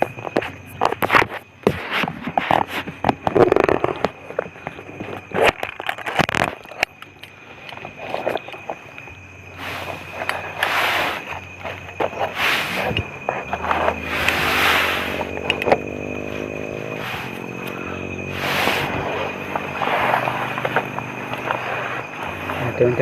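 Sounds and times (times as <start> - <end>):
handling scrapes and clicks: 0.0 - 22.8
hissing rustles: 0.0 - 23.0.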